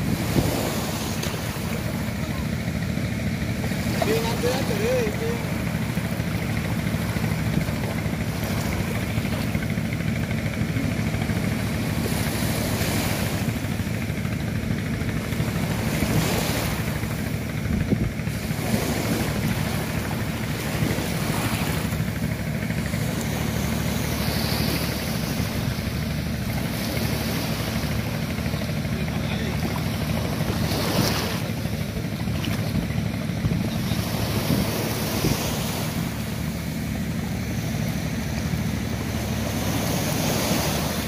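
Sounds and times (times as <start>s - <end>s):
small waves washing on sand: 0.0s - 41.0s
steady low rumble: 0.0s - 41.0s.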